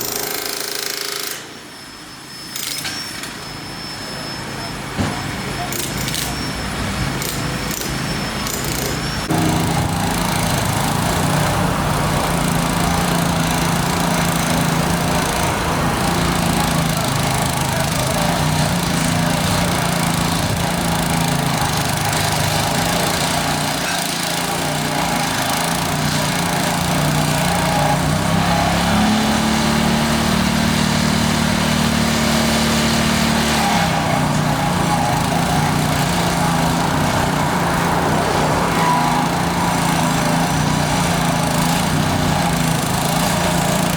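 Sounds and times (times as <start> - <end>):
construction machine engine running: 3.8 - 43.9.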